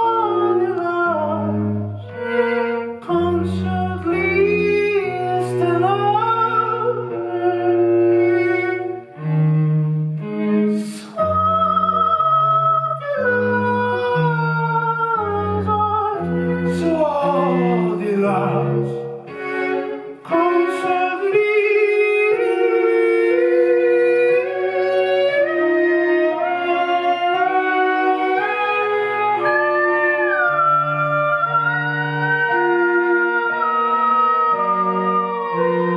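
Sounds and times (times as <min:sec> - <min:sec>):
bowed string ensemble: 0:00.0 - 0:35.9.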